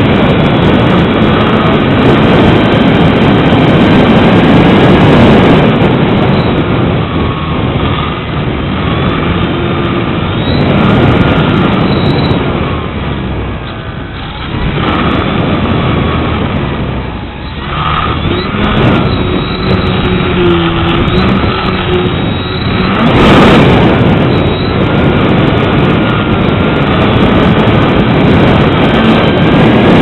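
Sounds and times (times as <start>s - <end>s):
electric motor whine: 0.0s - 30.0s
strong wind buffeting microphone: 0.0s - 30.0s.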